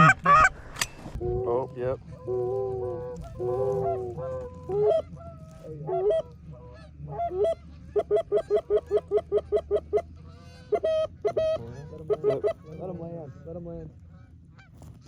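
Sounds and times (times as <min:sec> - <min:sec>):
geese honking: 0:00.0 - 0:00.6, 0:01.5 - 0:14.8.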